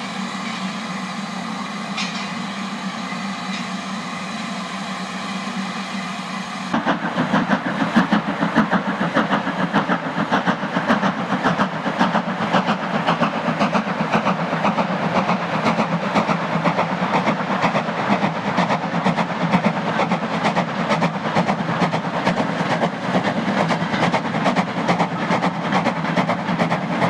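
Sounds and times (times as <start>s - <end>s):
steam hissing: 0.0s - 27.0s
steam locomotive exhaust beats: 0.0s - 27.0s.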